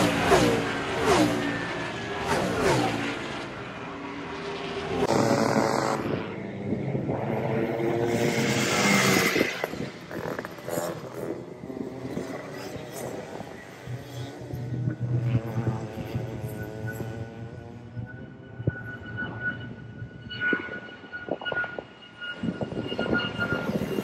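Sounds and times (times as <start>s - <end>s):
kart engines racing: 0.0s - 20.1s, 21.8s - 24.0s.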